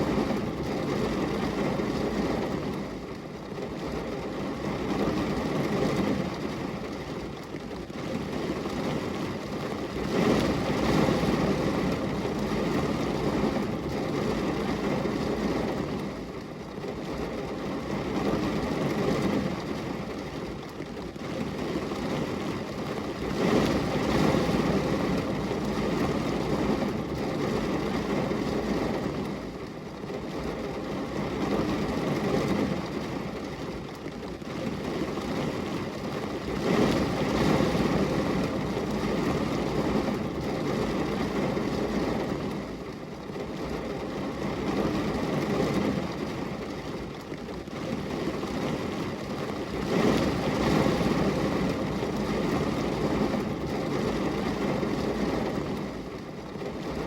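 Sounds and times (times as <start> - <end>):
rain on a glass window: 0.0 - 57.0.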